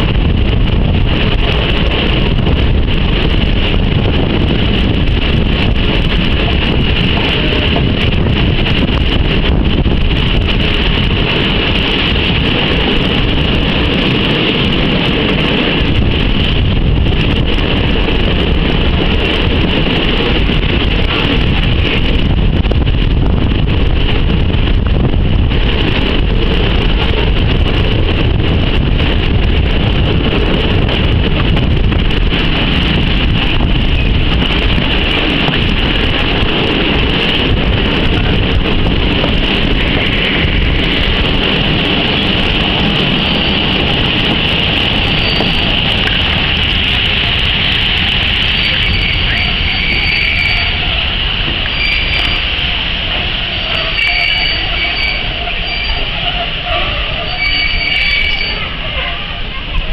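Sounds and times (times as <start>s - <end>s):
train rolling noise: 0.0s - 59.9s
wind on microphone: 0.0s - 59.9s.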